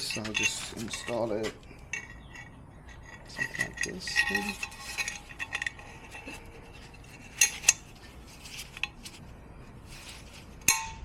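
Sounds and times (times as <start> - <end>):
light rubbing: 0.0 - 10.8.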